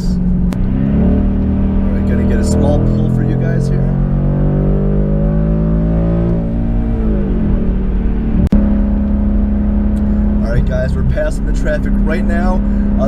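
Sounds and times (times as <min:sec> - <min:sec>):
car engine revving and droning: 0:00.0 - 0:13.0.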